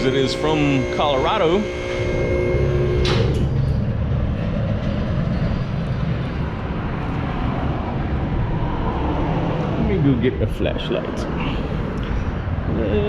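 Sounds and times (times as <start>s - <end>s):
low machine rumble: 0.0s - 13.0s.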